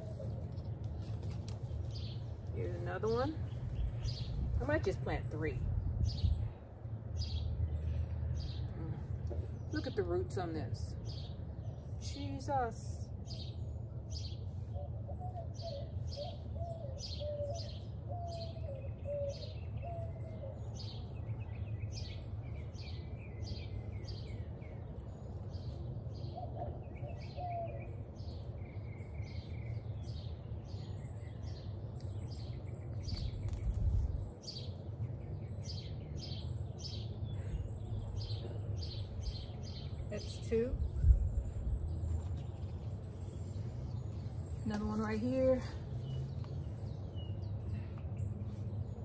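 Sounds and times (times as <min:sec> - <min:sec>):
low warbling bird song: 0:00.0 - 0:49.0
songbirds chirping: 0:00.0 - 0:49.0.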